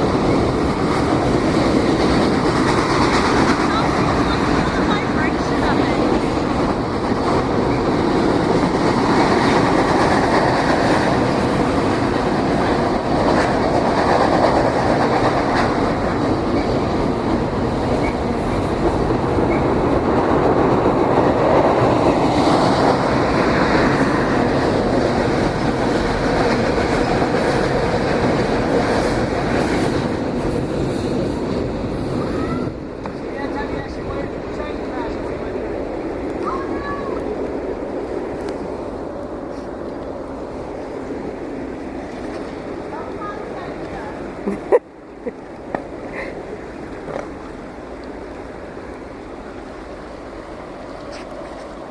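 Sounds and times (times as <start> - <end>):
train wheels clickety-clack: 0.0 - 51.9.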